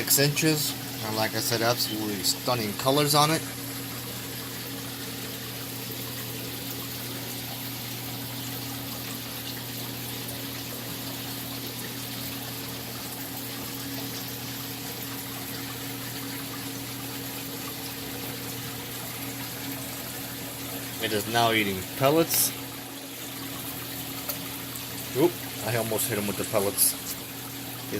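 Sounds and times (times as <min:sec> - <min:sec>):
low pump hum: 0:00.0 - 0:27.9
water trickling: 0:00.0 - 0:27.9.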